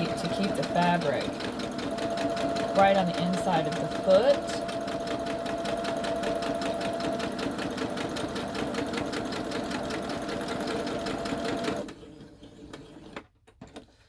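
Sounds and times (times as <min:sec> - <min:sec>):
sewing machine stitching: 0:00.0 - 0:13.8.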